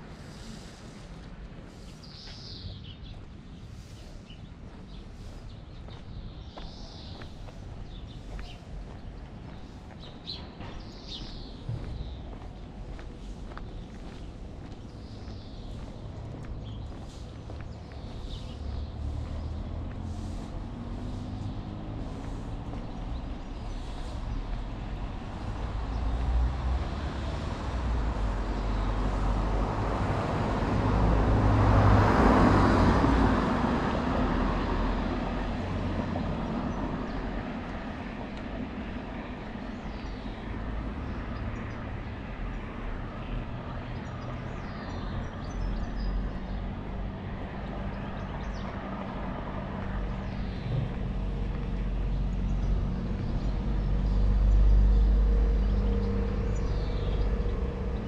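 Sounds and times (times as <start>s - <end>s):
low rumble of traffic: 0.0s - 58.0s
vehicle passing: 4.9s - 58.0s.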